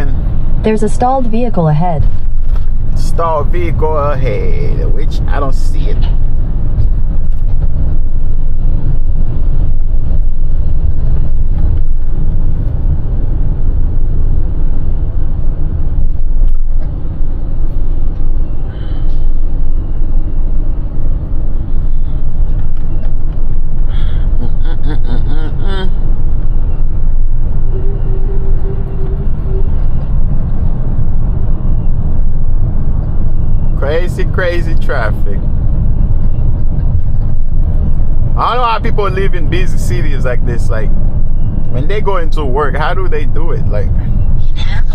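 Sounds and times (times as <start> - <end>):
road noise: 0.0 - 44.9
truck engine rumble: 0.0 - 44.9.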